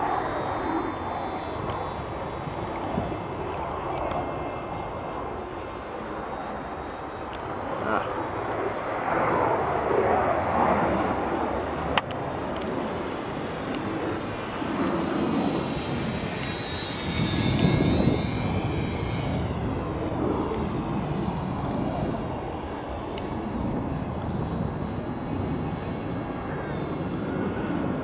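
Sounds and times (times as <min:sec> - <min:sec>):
model airplane motor whine: 0:00.0 - 0:28.0.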